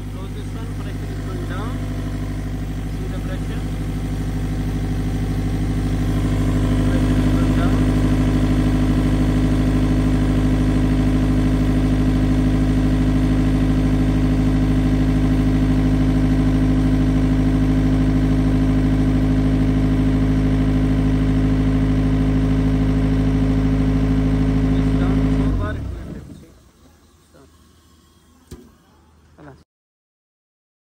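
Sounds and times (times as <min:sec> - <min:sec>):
air compressor diesel engine running: 0:00.0 - 0:29.6.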